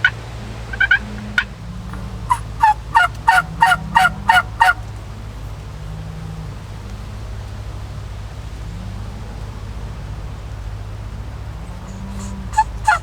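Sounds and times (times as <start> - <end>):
wild turkey yelping: 0.0 - 7.0, 8.5 - 13.0.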